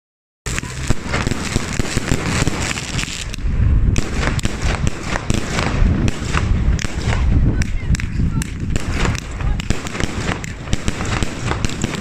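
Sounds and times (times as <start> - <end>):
fireworks bangs and crackles: 0.5 - 12.0
low rumble: 0.5 - 12.0.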